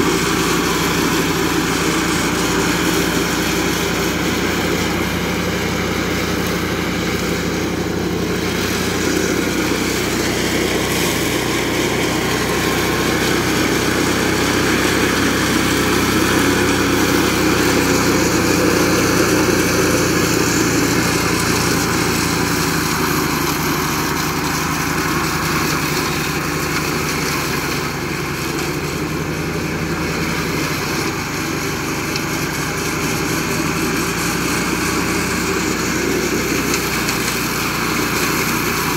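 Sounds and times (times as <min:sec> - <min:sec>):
flail mower running: 0:00.0 - 0:38.9.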